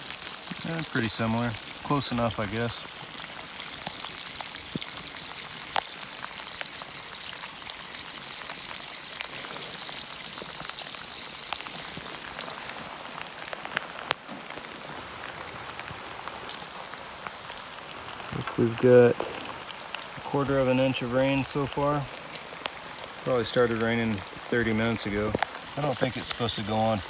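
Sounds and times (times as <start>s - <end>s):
rain pattering: 0.0s - 27.0s
raindrops tapping close by: 0.0s - 27.0s.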